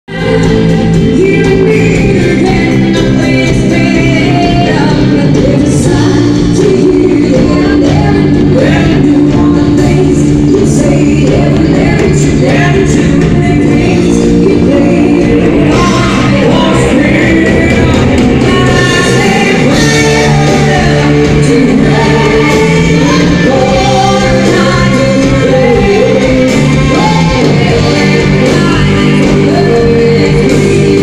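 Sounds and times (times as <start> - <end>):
person singing: 0.0 - 31.0
live band playing loud music: 0.1 - 31.0.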